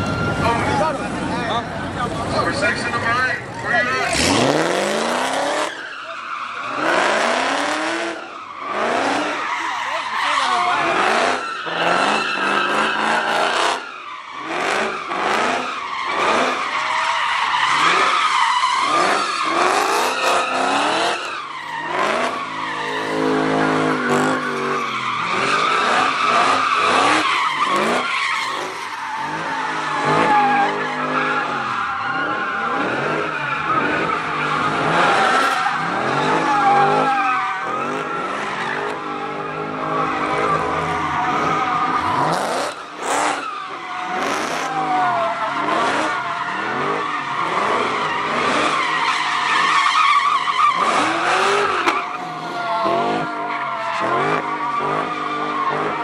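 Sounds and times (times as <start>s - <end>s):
tyres squealing: 0.0s - 56.0s
car engine revving: 0.3s - 56.0s.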